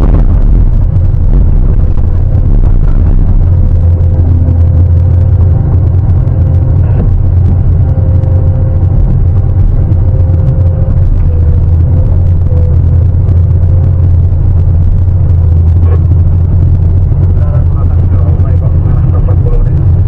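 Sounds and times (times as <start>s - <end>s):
diesel engine rumbling: 0.0s - 20.0s
faint whine: 0.0s - 20.0s.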